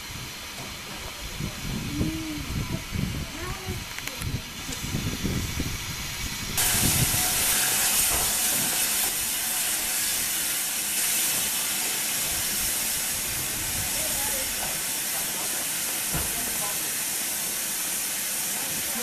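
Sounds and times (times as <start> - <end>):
steam locomotive hissing steam: 0.0 - 19.0.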